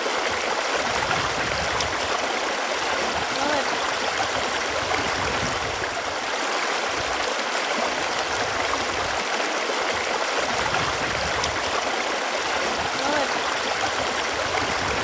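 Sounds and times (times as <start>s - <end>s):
running water gurgling: 0.0s - 15.0s.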